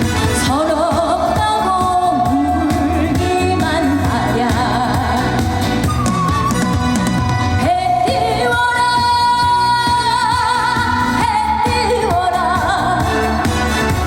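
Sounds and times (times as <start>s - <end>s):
pop band backing: 0.0s - 14.0s
woman singing with vibrato: 0.3s - 5.9s, 7.6s - 13.7s.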